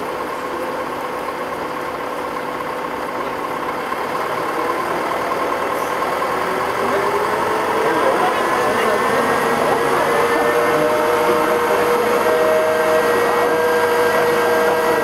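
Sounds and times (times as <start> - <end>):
crane engine revving: 0.0 - 15.0.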